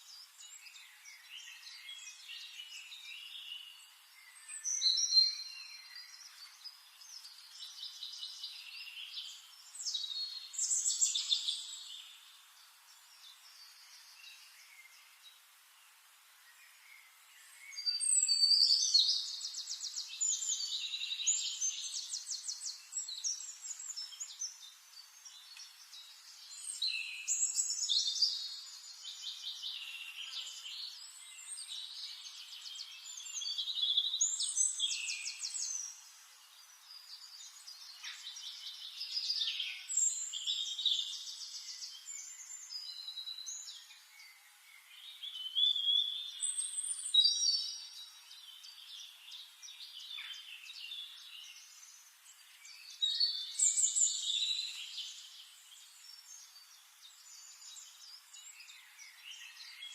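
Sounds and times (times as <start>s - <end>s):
quiet bird chirping: 0.0s - 59.9s.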